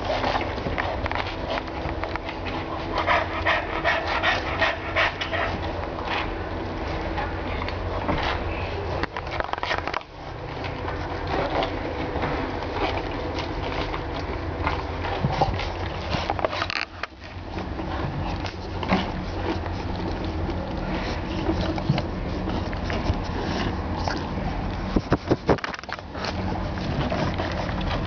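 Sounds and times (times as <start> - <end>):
small clicks and scrapes: 0.0 - 6.3, 9.0 - 28.0
puppies scuffling: 0.0 - 28.0
steady low hum: 0.0 - 28.0.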